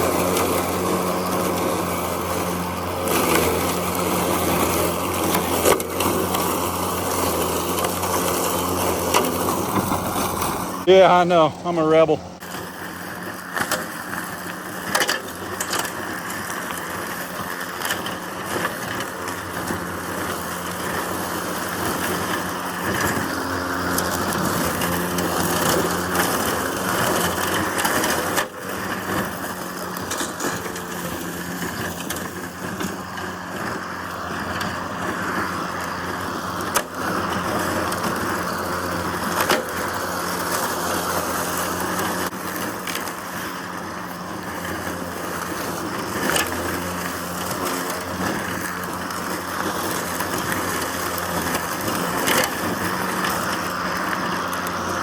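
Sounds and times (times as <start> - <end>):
robot mower whirring: 0.0 - 55.0.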